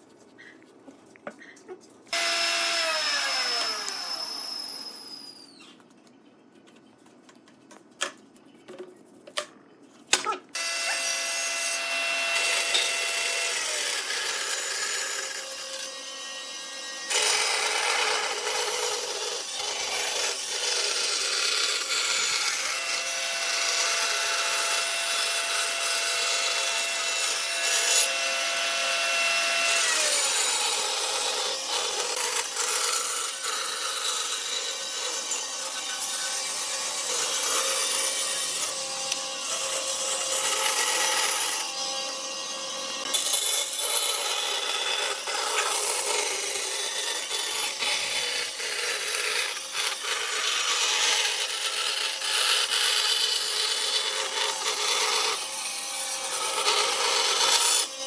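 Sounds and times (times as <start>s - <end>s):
power tool whining on wood: 2.1s - 5.8s, 10.6s - 58.0s.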